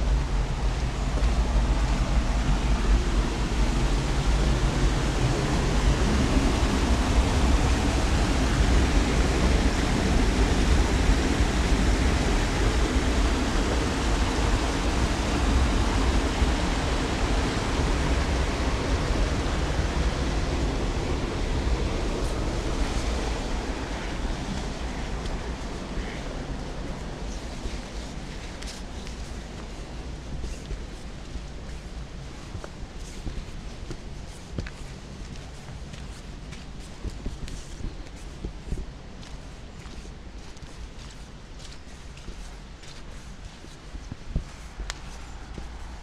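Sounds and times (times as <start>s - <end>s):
stream rushing over rocks: 0.1s - 46.0s.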